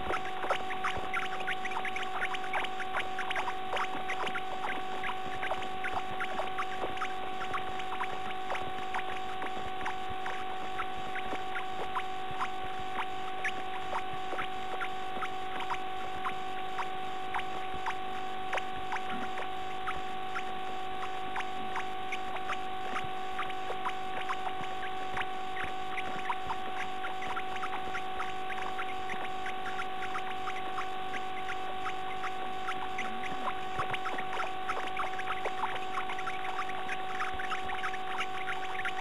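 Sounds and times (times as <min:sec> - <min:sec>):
electrical hum and whine: 0:00.0 - 0:39.0
faint high ticks or squeaks: 0:00.0 - 0:39.0.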